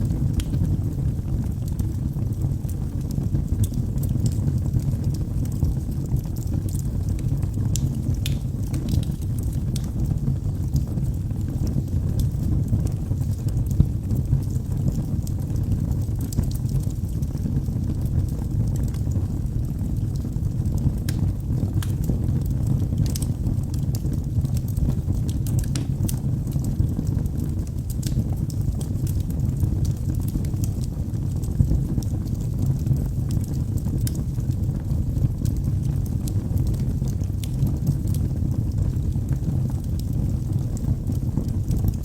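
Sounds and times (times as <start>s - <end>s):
fire crackles and pops: 0.0s - 42.0s
low rumble of flames: 0.0s - 42.0s.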